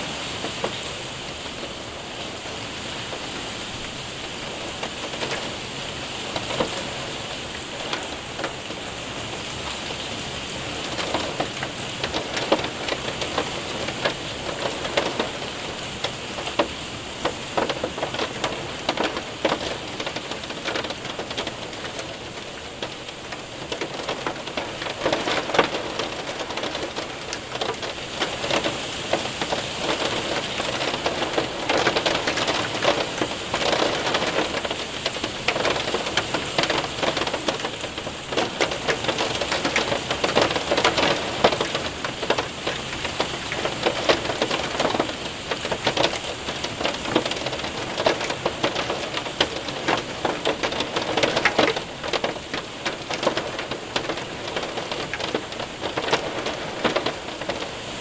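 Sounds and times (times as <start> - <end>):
rain on window and roof: 0.0 - 58.0
hailstones ticking: 0.3 - 58.0.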